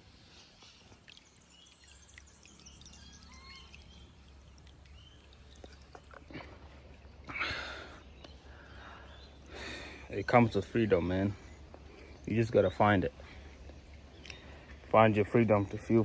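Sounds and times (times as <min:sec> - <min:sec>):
birds chirping and whistling: 0:00.7 - 0:14.8.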